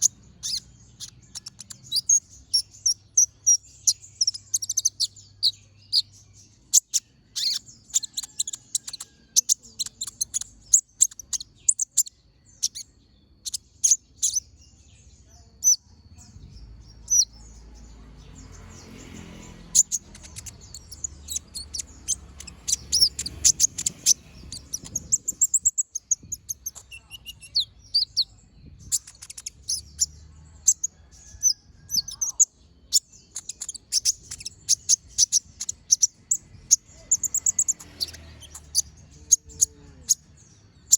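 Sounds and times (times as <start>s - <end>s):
sunbird chirps and trills: 0.0s - 40.9s.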